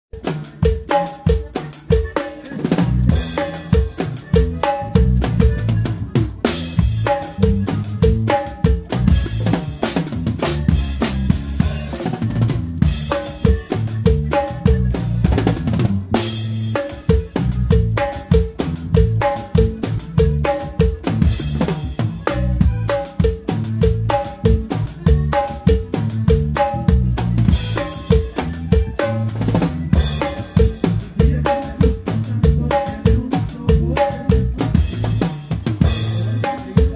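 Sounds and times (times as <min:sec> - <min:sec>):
bass guitar notes: 0:00.1 - 0:36.9
drum kit groove: 0:00.1 - 0:36.9
repeating melodic figure: 0:00.4 - 0:33.3.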